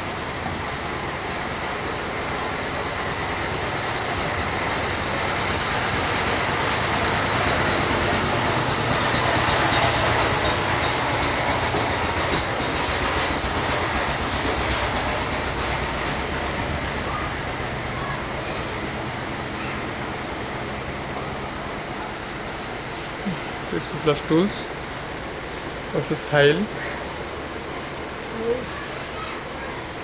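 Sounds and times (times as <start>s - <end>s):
rushing rumbling background noise: 0.0s - 30.0s.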